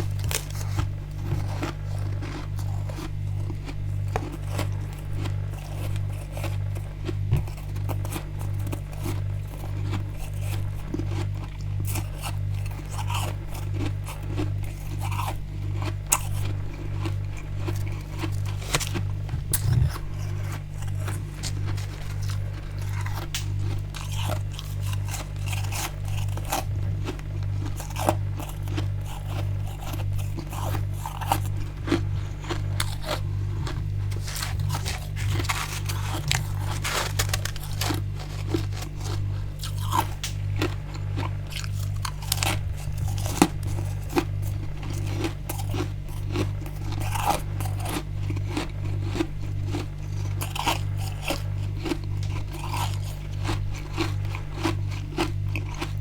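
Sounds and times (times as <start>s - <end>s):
ice crunching and chewing: 0.0s - 56.0s
low throbbing hum: 0.0s - 56.0s.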